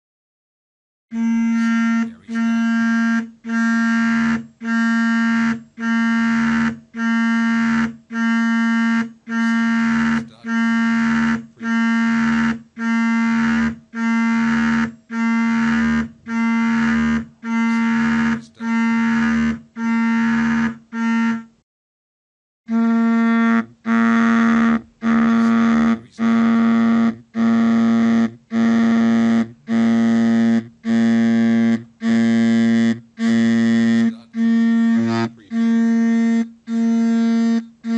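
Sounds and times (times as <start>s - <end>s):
phone vibrating buzz: 1.1s - 21.6s, 22.7s - 37.9s.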